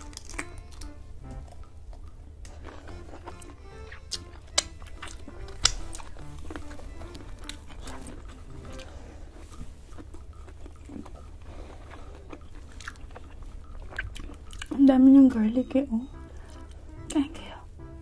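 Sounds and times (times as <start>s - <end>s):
chewing and mouth smacks: 0.0s - 14.8s
soft background music: 0.0s - 18.0s.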